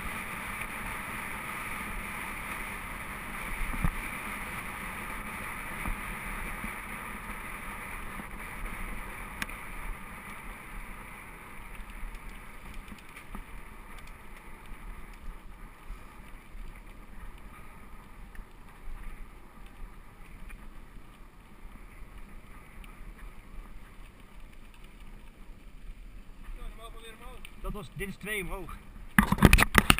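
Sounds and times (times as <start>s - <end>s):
bike rattles and clicks: 0.0s - 29.9s
bike tyres rolling on gravel: 0.0s - 29.9s.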